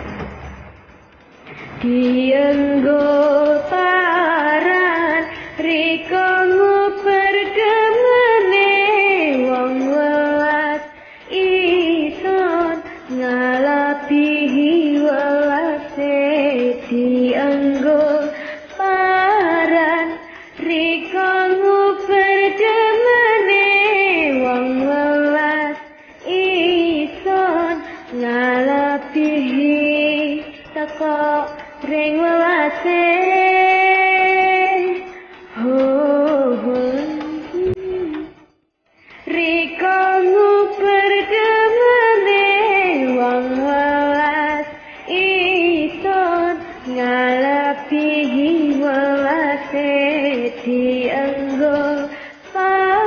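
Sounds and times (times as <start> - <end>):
woman singing: 1.5 - 53.0.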